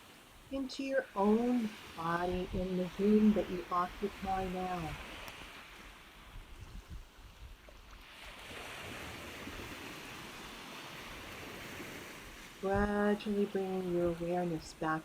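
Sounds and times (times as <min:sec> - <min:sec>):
ocean surf washing: 0:00.0 - 0:15.0.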